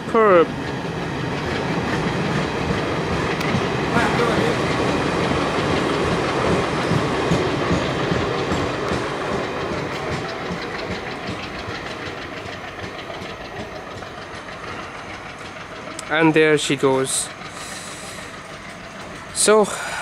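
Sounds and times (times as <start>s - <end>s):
train wheels clacking on rail joints: 0.0s - 20.0s.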